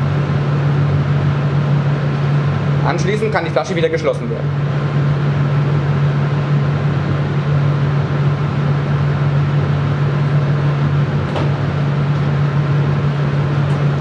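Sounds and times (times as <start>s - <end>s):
blower humming with airflow: 0.0s - 14.0s.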